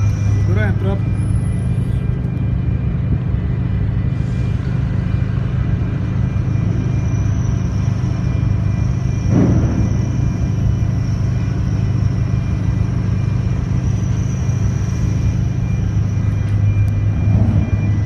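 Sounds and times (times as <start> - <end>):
ship machinery hum and rumble: 0.0 - 18.0.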